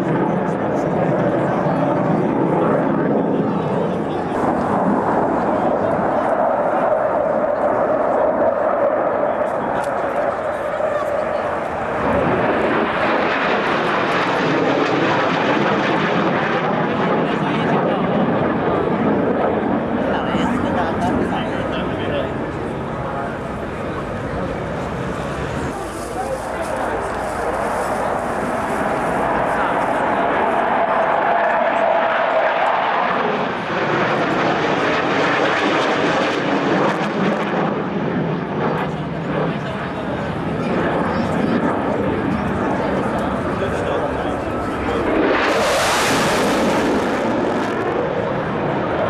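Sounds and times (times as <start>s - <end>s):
jet flying overhead: 0.0s - 49.0s.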